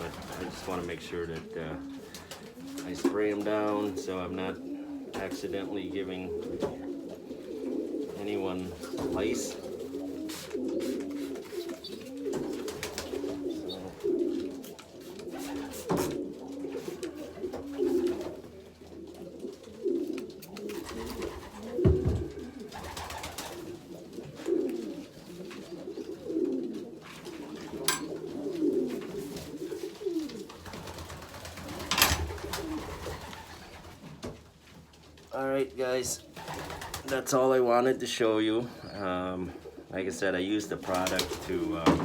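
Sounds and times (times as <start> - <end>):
pigeons cooing: 0.0 - 34.3, 35.1 - 42.0.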